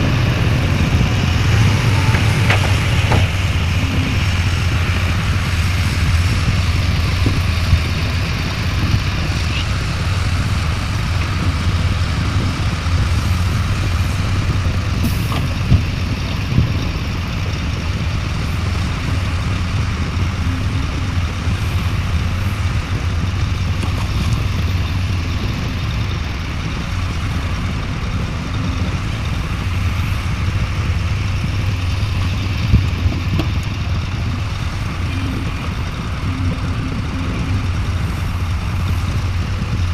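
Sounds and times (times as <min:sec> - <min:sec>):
diesel engine low hum: 0:00.0 - 0:39.9.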